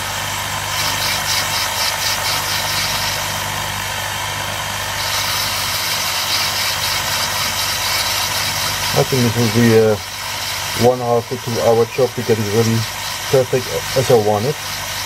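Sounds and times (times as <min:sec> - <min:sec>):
bench lathe running: 0:00.0 - 0:15.0
high pulsing grinding scrape: 0:00.0 - 0:15.0.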